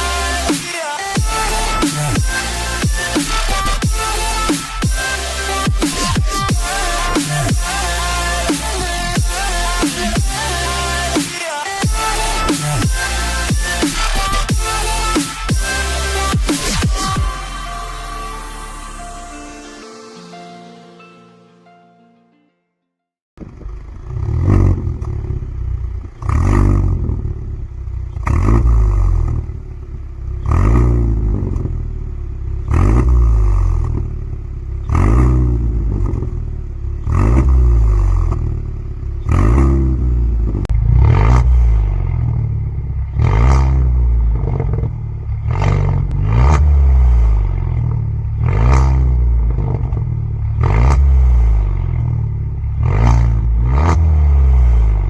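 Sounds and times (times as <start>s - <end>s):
car engine revving: 0.0s - 19.4s, 23.4s - 55.0s.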